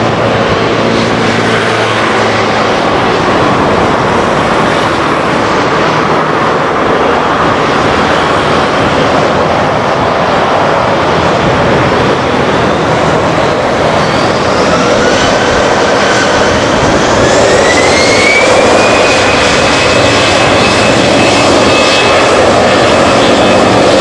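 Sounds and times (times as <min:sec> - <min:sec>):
jet engine whine rising: 0:00.0 - 0:24.0
jet engines roaring: 0:00.0 - 0:24.0.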